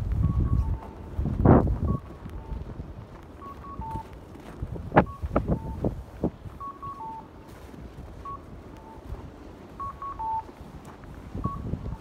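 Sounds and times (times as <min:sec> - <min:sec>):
pedestrian crossing signal beeps: 0:00.0 - 0:04.2, 0:04.9 - 0:12.0
footsteps in snow: 0:00.0 - 0:12.0.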